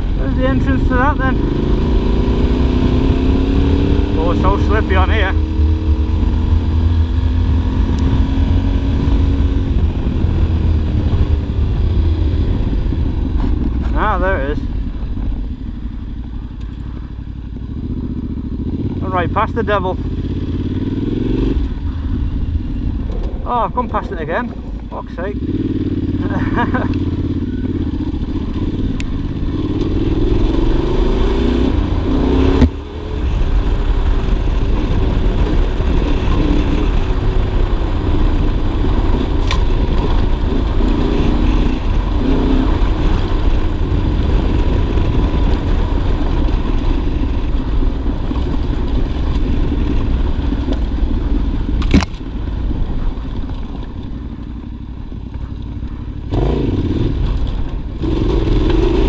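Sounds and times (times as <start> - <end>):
motorcycle engine running: 0.0 - 59.0
wind and tyre noise: 0.0 - 59.0.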